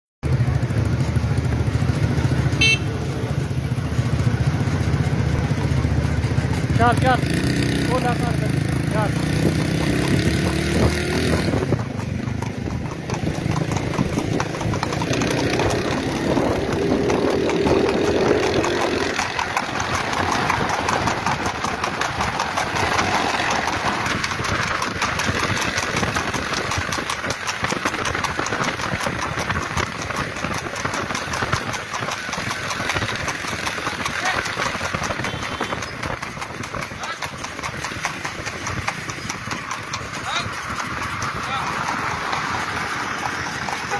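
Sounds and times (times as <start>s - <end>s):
motorcycle engines running: 0.2s - 43.9s.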